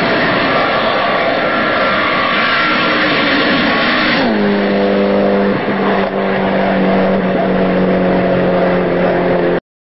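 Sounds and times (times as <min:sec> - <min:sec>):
car engine droning at high speed: 0:00.0 - 0:09.6.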